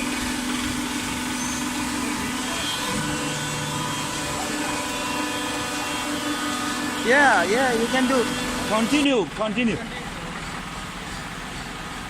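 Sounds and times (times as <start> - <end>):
baling machine hum: 0.0 - 12.0.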